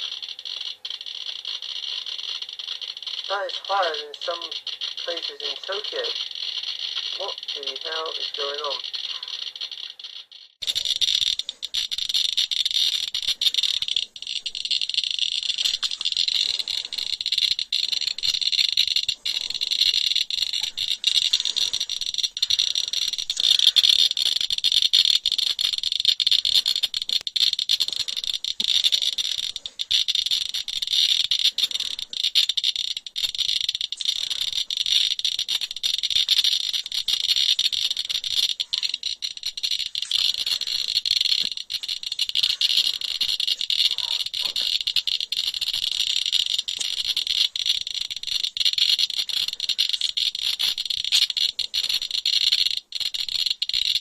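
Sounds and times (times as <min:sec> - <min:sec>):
geiger counter clicking: 0:00.0 - 0:54.0.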